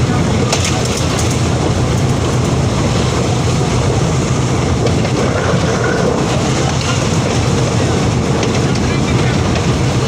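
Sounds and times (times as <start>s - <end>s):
passenger train rumble: 0.0s - 10.0s.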